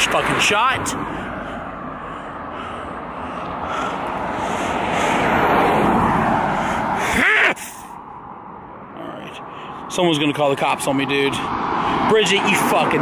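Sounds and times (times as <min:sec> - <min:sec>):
car passing by: 0:00.0 - 0:08.5, 0:10.7 - 0:13.0.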